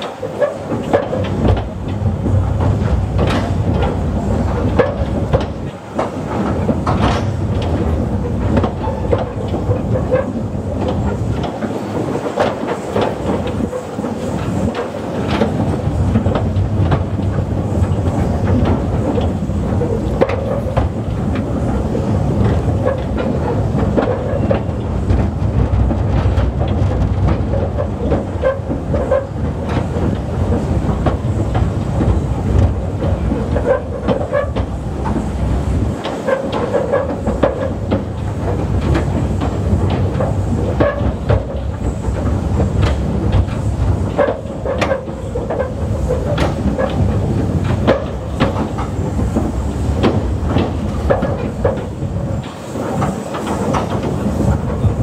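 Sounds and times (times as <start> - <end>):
railway vehicle running: 0.0 - 55.0
wheel clicks on rails: 0.0 - 55.0.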